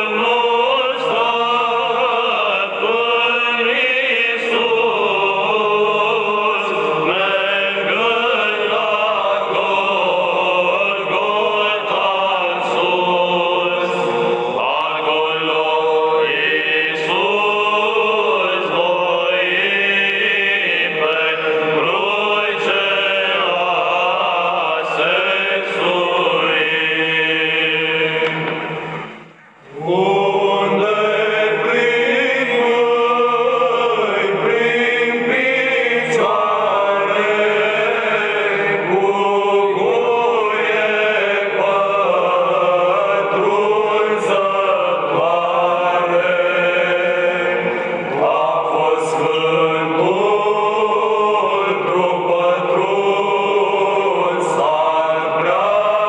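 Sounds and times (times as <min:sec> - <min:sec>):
voices chanting a hymn: 0:00.0 - 0:56.0.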